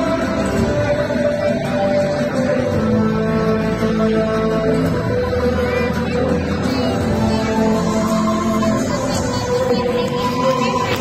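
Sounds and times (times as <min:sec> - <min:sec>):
music with held melodic notes: 0:00.0 - 0:11.0.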